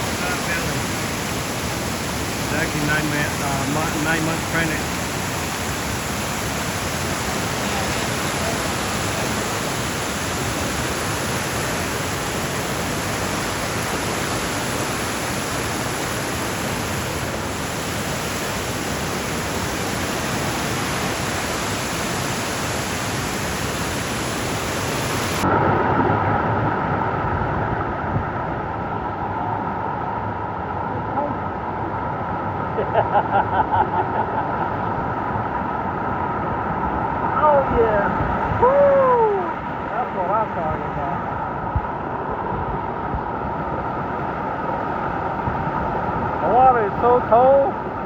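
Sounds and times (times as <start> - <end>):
steady hum: 0.0 - 48.0
waterfall roaring: 0.0 - 48.0.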